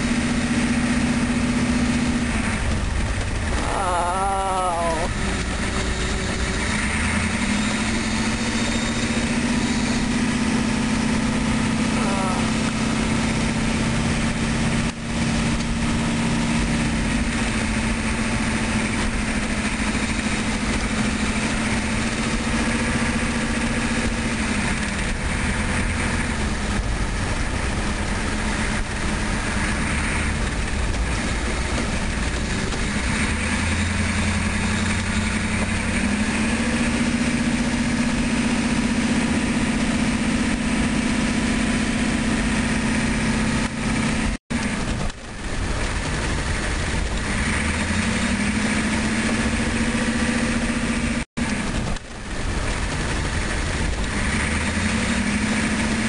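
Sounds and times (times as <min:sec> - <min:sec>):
car engine drone: 0:00.0 - 0:56.0
road noise inside car: 0:00.0 - 0:56.0.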